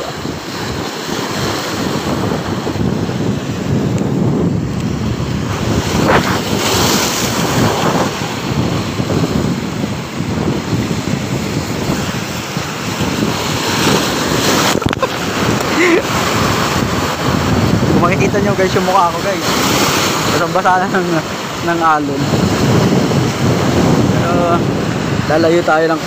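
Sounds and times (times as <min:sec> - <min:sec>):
sea waves breaking on seawall: 0:00.0 - 0:26.0
wind buffeting microphone: 0:00.0 - 0:26.0.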